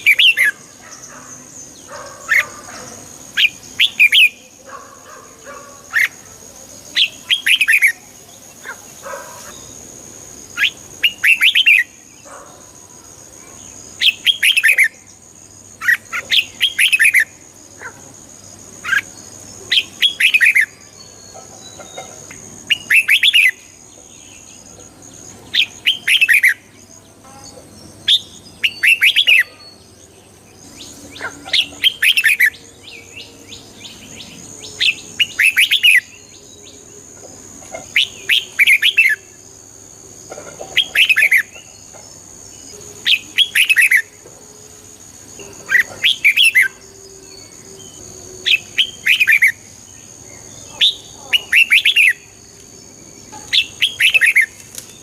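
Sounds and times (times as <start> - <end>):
bird chirping phrases: 0.0 - 44.2, 44.8 - 55.0.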